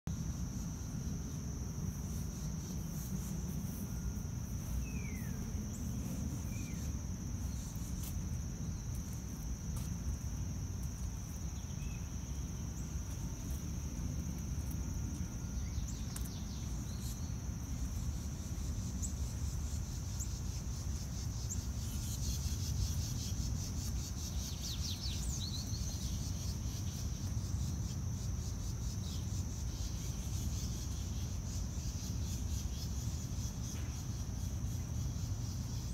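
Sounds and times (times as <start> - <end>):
insects droning: 0.1 - 35.9.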